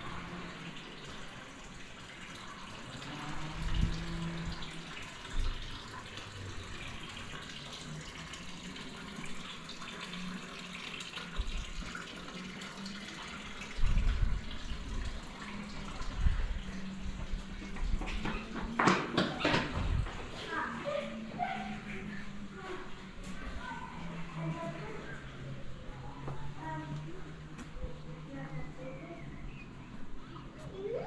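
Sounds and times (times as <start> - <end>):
running water splashing: 0.0 - 31.0.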